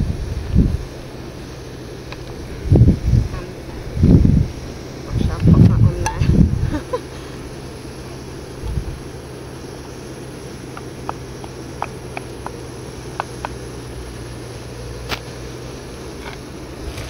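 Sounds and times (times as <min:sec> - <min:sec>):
camping stove burning: 0:00.0 - 0:17.0.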